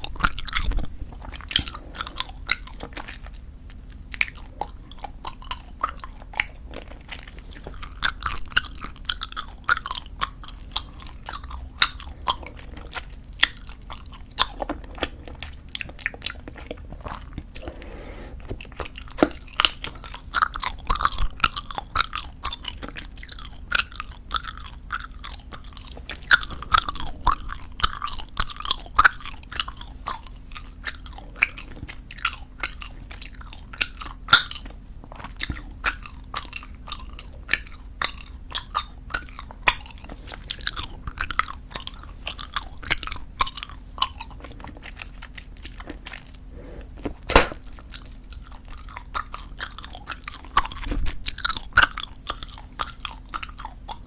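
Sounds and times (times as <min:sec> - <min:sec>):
gum chewing smacks: 0:00.0 - 0:54.0.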